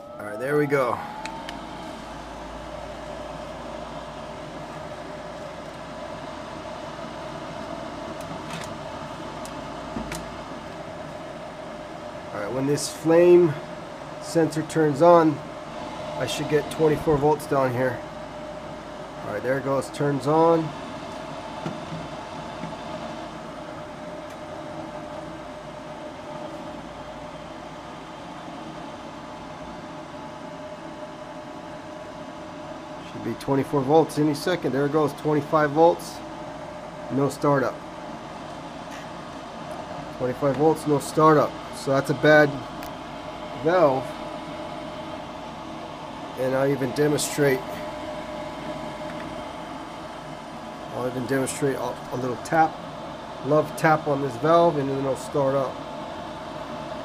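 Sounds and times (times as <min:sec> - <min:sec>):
furnace motor whining and humming: 0:00.0 - 0:57.0.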